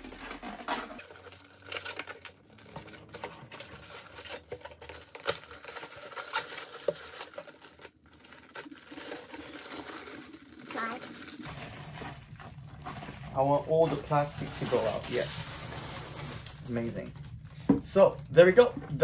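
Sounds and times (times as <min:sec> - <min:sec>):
plastic film crinkling: 0:00.0 - 0:19.0.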